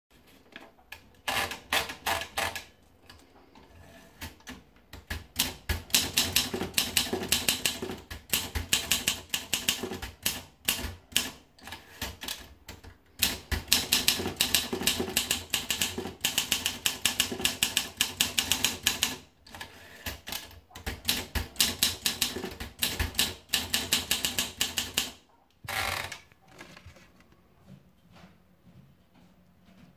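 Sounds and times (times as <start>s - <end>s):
manual typewriter typing: 1.0s - 3.2s, 4.1s - 26.1s.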